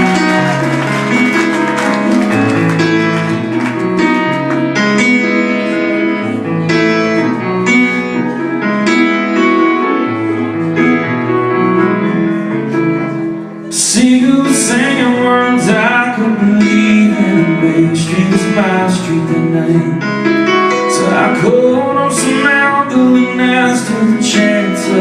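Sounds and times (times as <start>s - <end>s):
piano chords: 0.0s - 25.0s.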